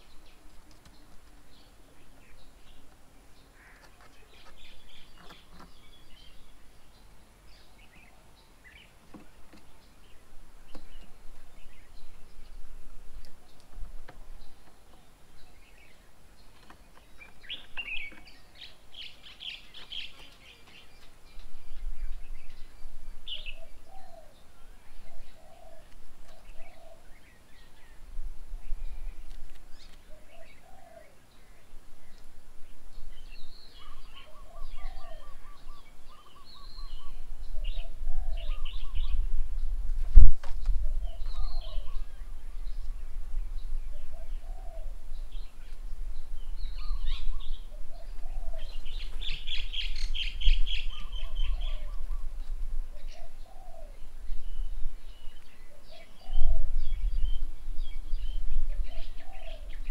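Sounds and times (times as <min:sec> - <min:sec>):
bird calls: 0:00.0 - 0:59.9.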